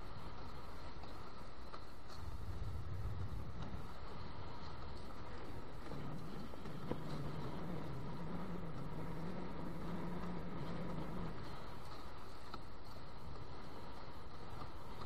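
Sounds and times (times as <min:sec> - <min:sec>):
low steady hum: 0:00.0 - 0:15.0
wind: 0:00.0 - 0:15.0.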